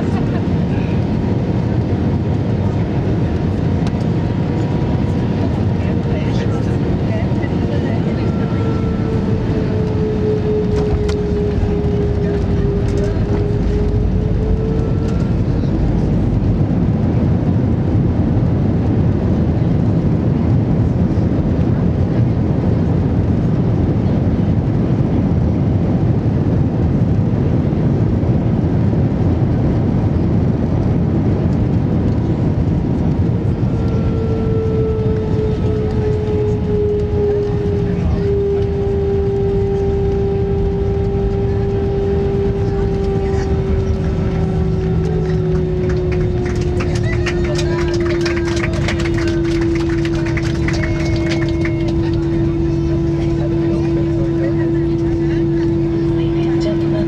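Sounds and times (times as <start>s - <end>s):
aircraft cabin rumble: 0.0s - 57.0s
humming engine tone: 0.0s - 57.0s.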